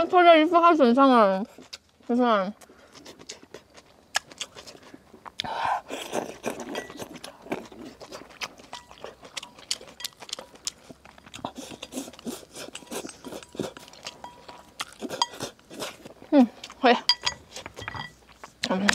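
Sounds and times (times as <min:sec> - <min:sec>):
slurping and chewing noodles: 0:01.4 - 0:18.9.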